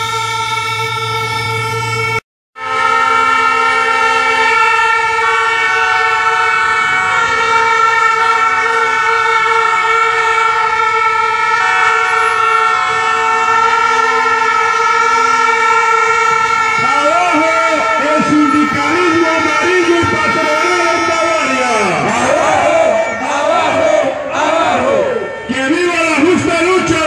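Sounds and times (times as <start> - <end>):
crowd blowing plastic horns: 0.0 - 27.0.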